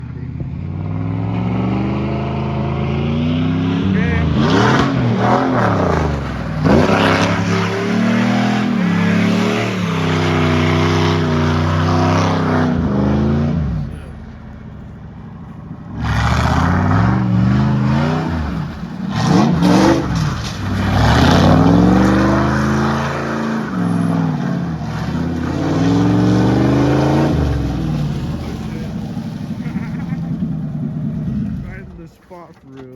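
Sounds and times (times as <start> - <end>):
car engine revving hard: 0.3 - 14.6, 15.8 - 32.2.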